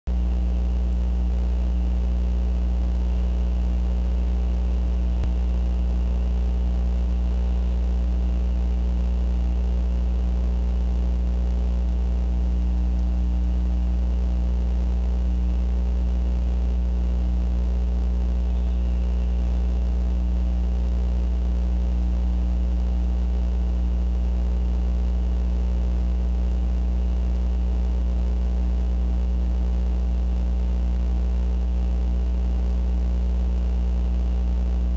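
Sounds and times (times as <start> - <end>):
electrical mains hum: 0.1 - 34.9.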